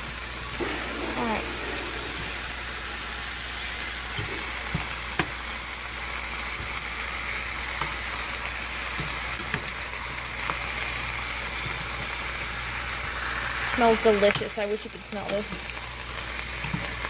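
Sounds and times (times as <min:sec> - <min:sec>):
pumpkin sizzling in a pot: 0:00.0 - 0:17.0.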